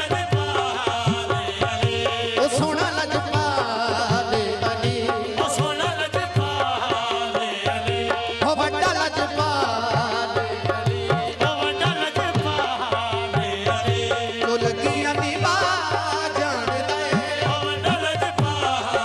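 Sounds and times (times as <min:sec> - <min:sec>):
harmonium chords: 0:00.0 - 0:19.0
singers' voices: 0:00.0 - 0:19.0
tabla beat: 0:00.0 - 0:19.0.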